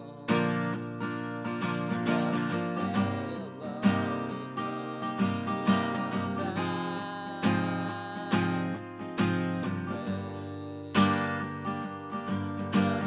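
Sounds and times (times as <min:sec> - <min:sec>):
guitar strumming chords: 0:00.0 - 0:13.0.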